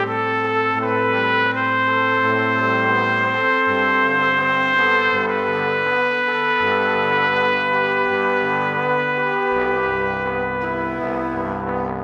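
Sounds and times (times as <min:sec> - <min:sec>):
brass-like chords music: 0:00.0 - 0:12.0.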